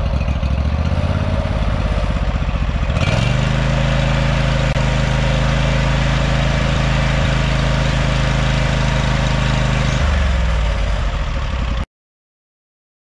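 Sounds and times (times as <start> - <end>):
mower engine running: 0.0 - 11.9.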